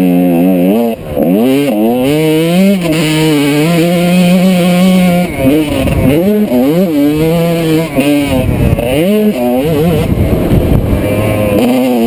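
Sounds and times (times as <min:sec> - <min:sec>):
two-stroke motorcycle engine revving: 0:00.0 - 0:12.0.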